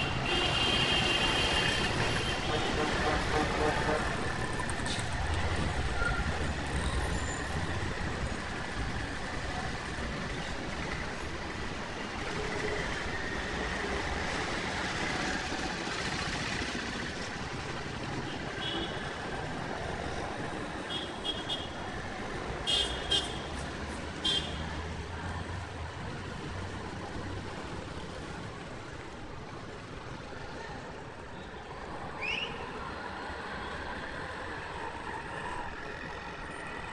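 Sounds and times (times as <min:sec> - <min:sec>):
road noise from passing cars: 0:00.0 - 0:36.9.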